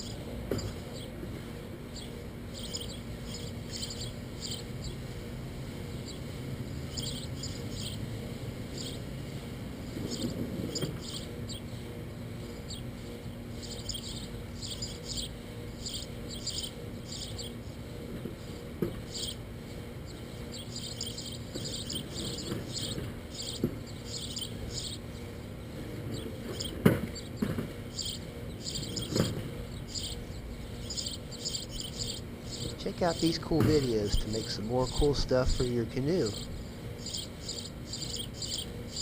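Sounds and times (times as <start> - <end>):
insects chirping: 1.8 - 5.0, 5.9 - 8.1, 8.7 - 9.2, 9.9 - 39.0.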